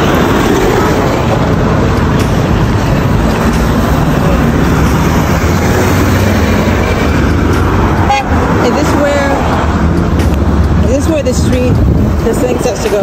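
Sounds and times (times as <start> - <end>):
minibus driving by: 0.0 - 13.0
road traffic rumble: 0.0 - 13.0.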